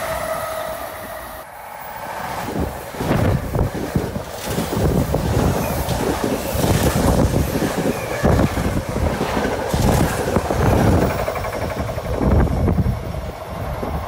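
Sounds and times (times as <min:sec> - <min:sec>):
train wheels rumbling on rail: 0:00.0 - 0:14.0
train wheels clattering: 0:02.3 - 0:14.0.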